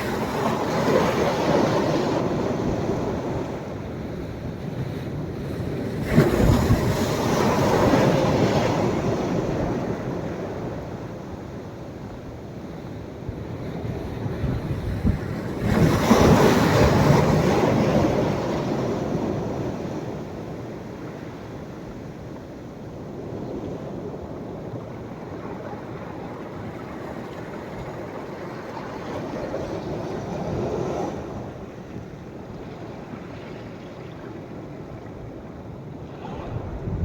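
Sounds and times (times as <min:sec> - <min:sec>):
sea waves breaking on shore: 0:00.0 - 0:11.6, 0:13.0 - 0:37.0.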